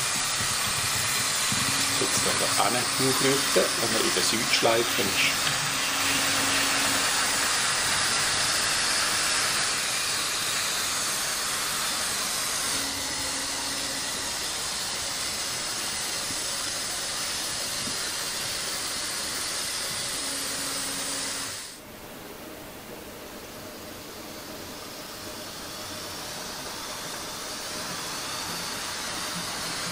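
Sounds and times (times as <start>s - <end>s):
model train rushing hiss: 0.0s - 21.8s, 24.0s - 29.9s.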